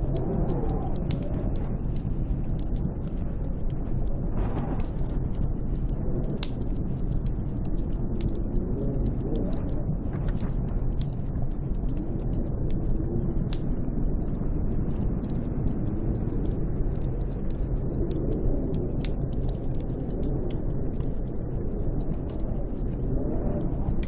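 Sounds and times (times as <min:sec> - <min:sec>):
small sharp crackles: 0:00.0 - 0:24.0
wind blowing with a howl: 0:00.0 - 0:24.0.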